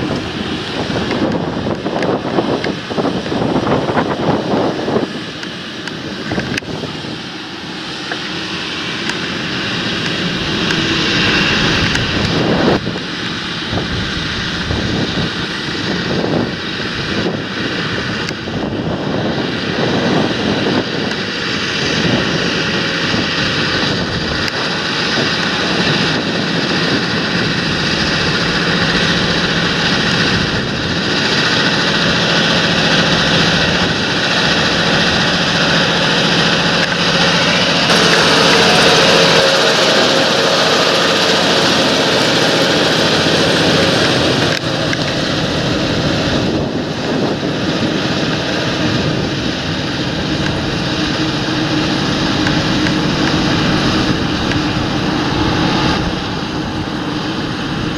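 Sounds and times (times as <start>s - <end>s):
thin steady whine: 0.0s - 57.9s
tractor engine running: 0.0s - 57.9s
wind on microphone: 0.0s - 57.9s.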